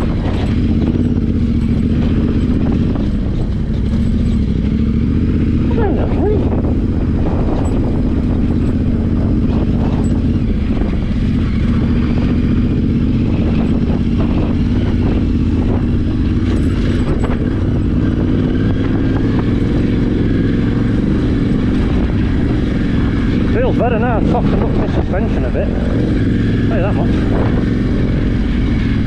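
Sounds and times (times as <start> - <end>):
bike rattling over bumps: 0.0 - 29.0
motorcycle engine running: 0.0 - 29.0.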